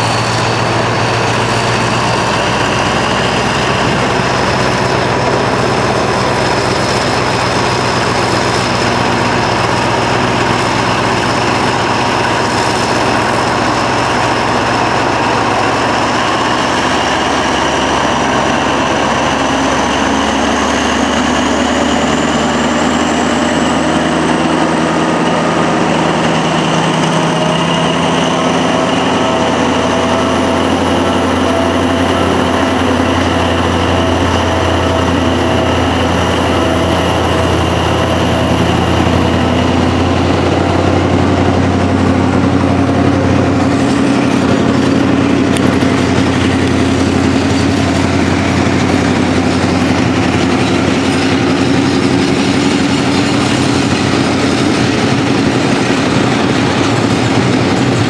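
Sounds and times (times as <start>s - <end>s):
high whine rising in pitch: 0.0s - 58.0s
locomotive engine droning: 0.0s - 58.0s
wagons rolling past: 0.0s - 58.0s.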